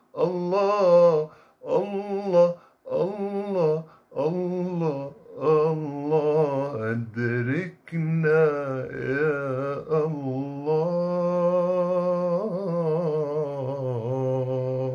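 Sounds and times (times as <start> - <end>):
man singing unaccompanied: 0.0 - 14.9.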